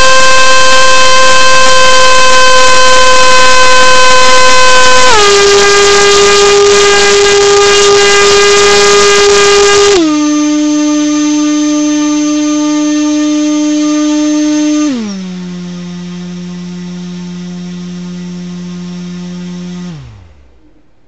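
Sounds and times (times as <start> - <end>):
electric motor whining: 0.0 - 20.8.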